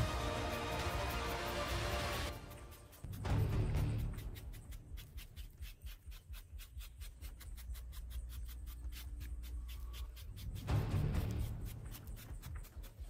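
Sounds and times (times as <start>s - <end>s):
paintbrush sweeping grit off stone: 0.0s - 13.0s.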